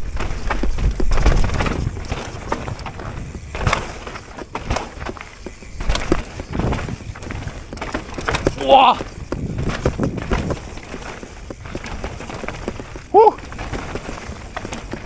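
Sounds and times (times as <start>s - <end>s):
bike clacking and rattling: 0.0s - 15.0s
bike tyres crunching over stone: 0.0s - 15.0s.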